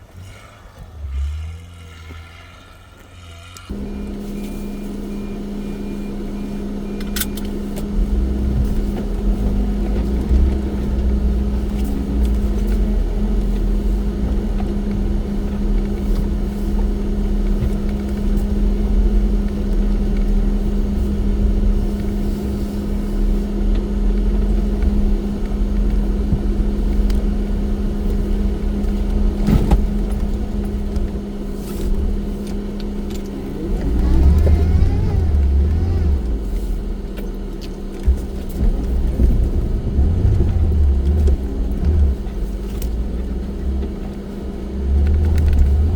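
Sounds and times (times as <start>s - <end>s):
off-road vehicle engine rumbling: 0.0s - 45.9s.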